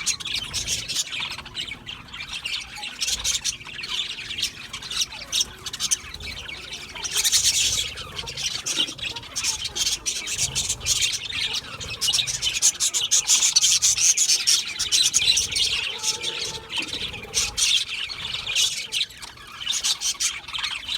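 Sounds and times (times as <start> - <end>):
budgies chirping and chattering: 0.0 - 20.9.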